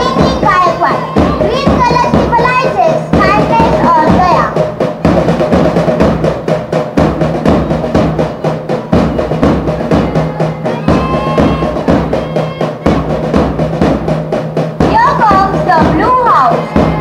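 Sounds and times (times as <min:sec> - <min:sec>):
bass drum beating: 0:00.0 - 0:17.0
snare drum beating: 0:00.0 - 0:17.0.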